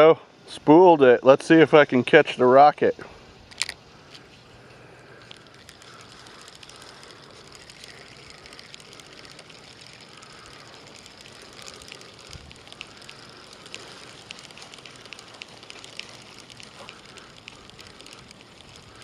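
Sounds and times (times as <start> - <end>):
outdoor hiss: 0.0 - 19.0
fishing reel clicking: 3.4 - 19.0.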